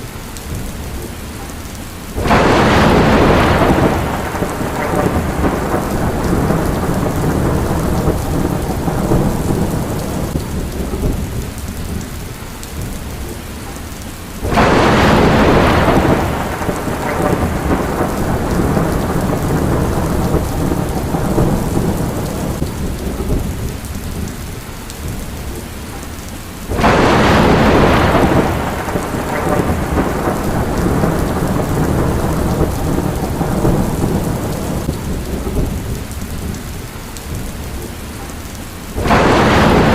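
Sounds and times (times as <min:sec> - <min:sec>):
heavy rain: 0:00.0 - 0:39.9
thunder claps rumbling: 0:02.1 - 0:13.5, 0:14.4 - 0:25.8, 0:26.6 - 0:39.9.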